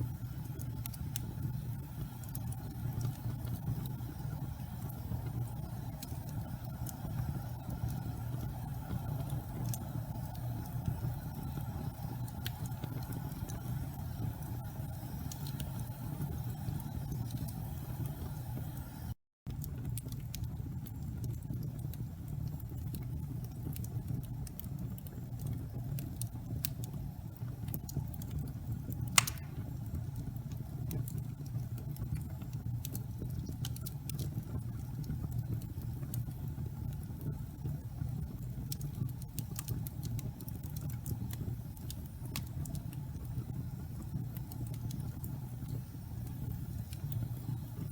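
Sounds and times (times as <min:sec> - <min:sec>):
fire popping: 0:00.0 - 0:47.9
wood fire burning and crackling: 0:00.0 - 0:47.9.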